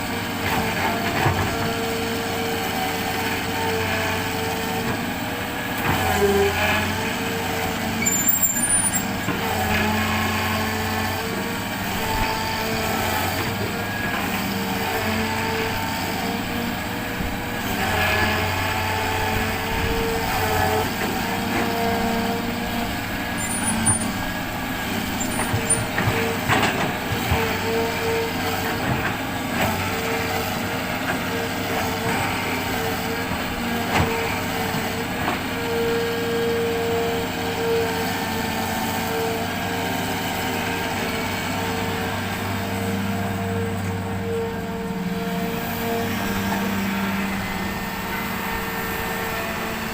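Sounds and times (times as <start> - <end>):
excavator engine and hydraulics: 0.0 - 49.9.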